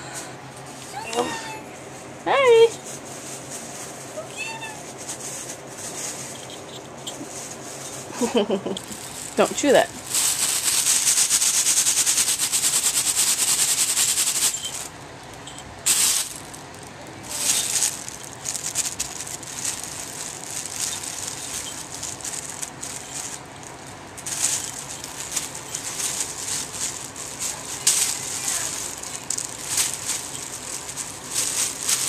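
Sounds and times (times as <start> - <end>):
plastic bag crinkling: 2.8 - 32.0.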